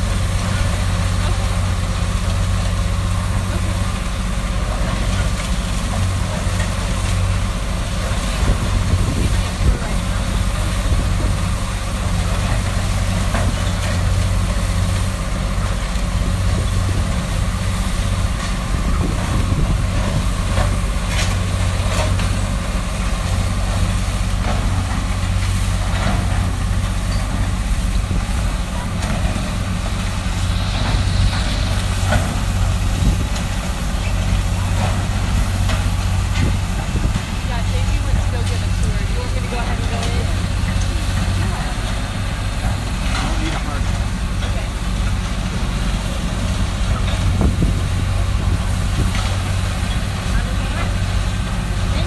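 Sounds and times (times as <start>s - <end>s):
diesel demolition machinery running: 0.0s - 52.0s.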